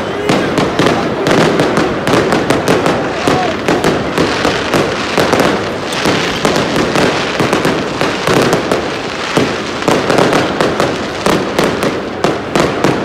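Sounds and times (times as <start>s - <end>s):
fireworks and firecrackers crackling: 0.0s - 13.0s.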